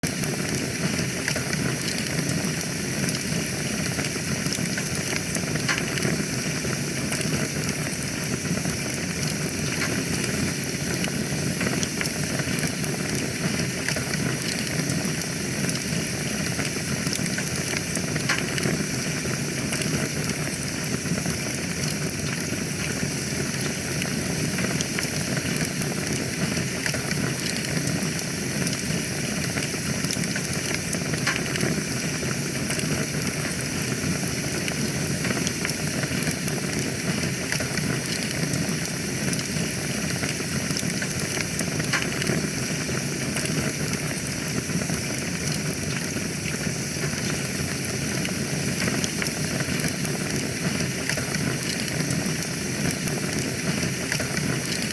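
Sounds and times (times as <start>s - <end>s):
fire crackling and popping: 0.0s - 54.9s
fire hissing and rumbling: 0.0s - 54.9s.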